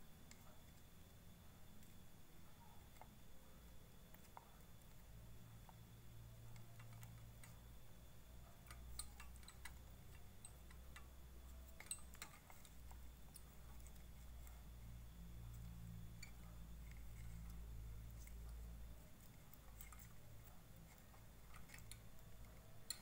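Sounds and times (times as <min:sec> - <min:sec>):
faint low hum: 0:00.0 - 0:23.0
small parts clicking: 0:02.7 - 0:23.0.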